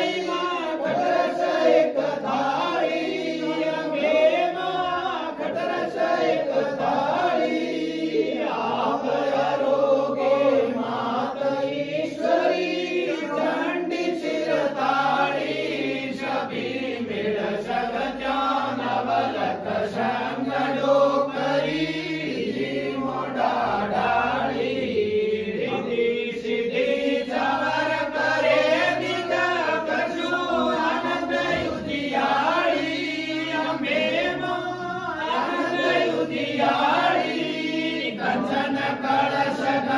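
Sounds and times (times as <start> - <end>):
men singing a hymn in unison: 0.0 - 39.9.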